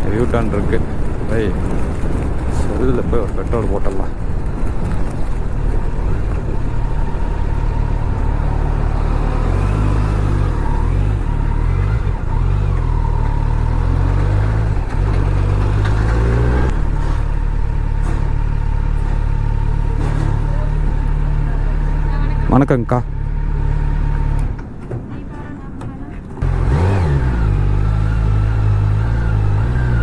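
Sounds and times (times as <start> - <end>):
motorcycle engine running: 0.0 - 24.7, 26.4 - 30.0.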